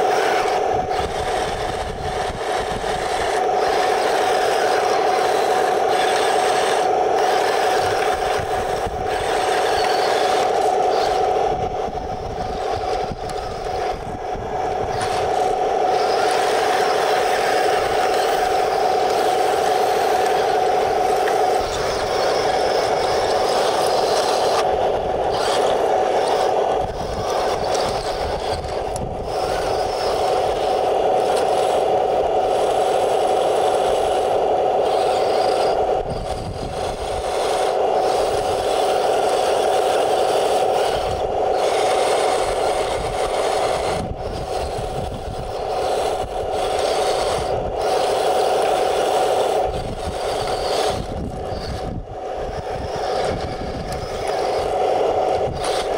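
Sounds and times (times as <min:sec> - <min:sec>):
toy tank mechanical drone: 0:00.0 - 0:55.9
wind rumbling on microphone: 0:00.2 - 0:33.1, 0:33.8 - 0:55.9.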